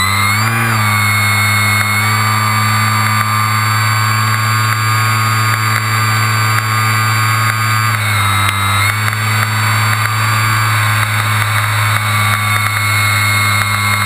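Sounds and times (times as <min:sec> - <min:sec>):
model airplane engine running: 0:00.0 - 0:14.0.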